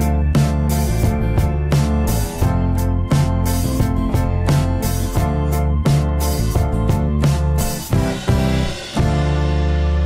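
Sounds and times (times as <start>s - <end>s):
background instrumental music: 0.0s - 10.0s.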